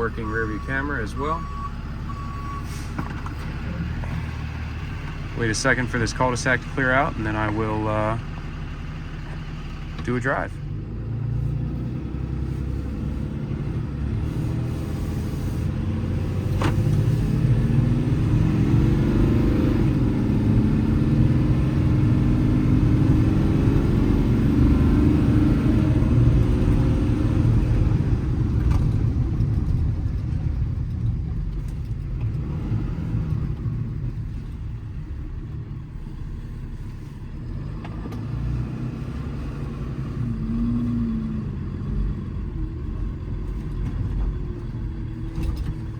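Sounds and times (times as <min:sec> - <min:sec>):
diesel truck accelerating: 0:00.0 - 0:45.9.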